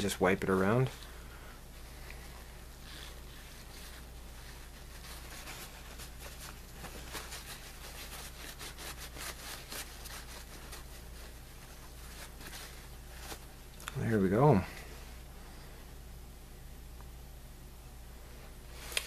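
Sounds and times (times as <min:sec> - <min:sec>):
paper towel rustling and crinkling: 0:00.0 - 0:15.6
steady low hum: 0:00.0 - 0:19.0.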